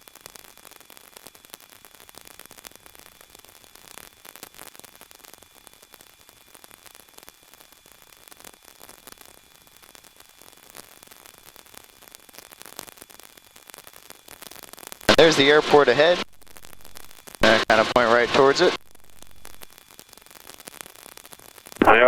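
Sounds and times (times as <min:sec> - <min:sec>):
static hiss with crackle: 0:00.0 - 0:22.0.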